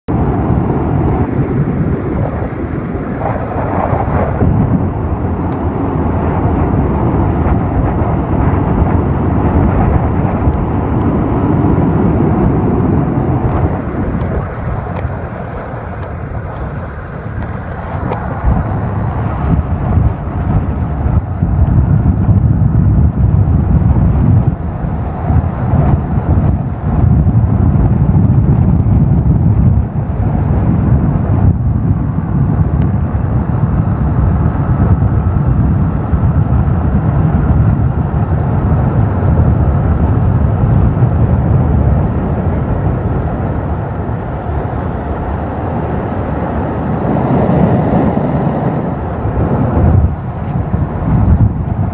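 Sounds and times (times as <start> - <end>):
moving vehicle running noise: 0.0 - 51.9
wind buffeting microphone: 0.1 - 51.9.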